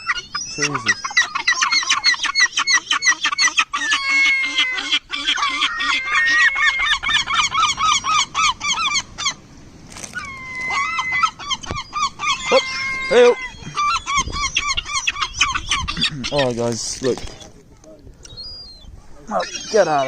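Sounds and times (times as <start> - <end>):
seagulls calling: 0.0 - 20.0.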